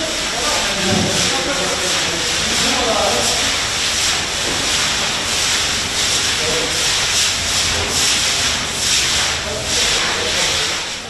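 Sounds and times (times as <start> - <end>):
brooms scrubbing wet floor: 0.0 - 11.0.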